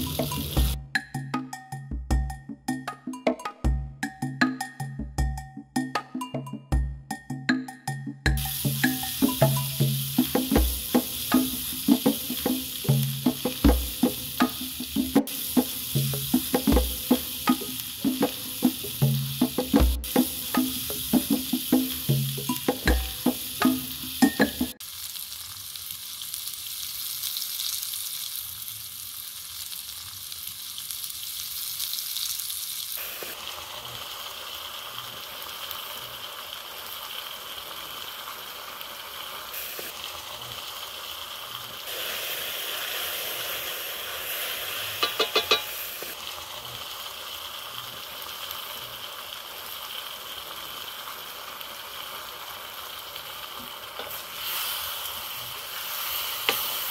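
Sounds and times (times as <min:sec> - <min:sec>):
vegetables sizzling in a wok: 0:00.0 - 0:00.8, 0:08.4 - 0:56.9.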